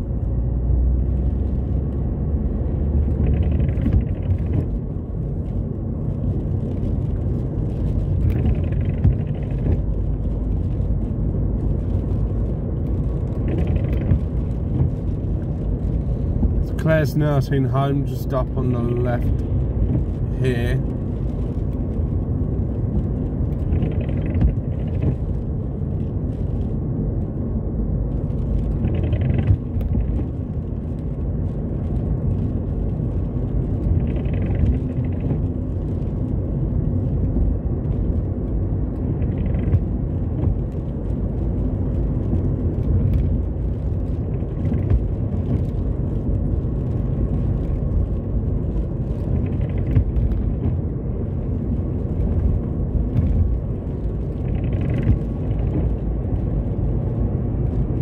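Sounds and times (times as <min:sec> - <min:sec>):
engine and tyre rumble: 0:00.0 - 0:58.0
windscreen wiper swishing: 0:00.0 - 0:58.0.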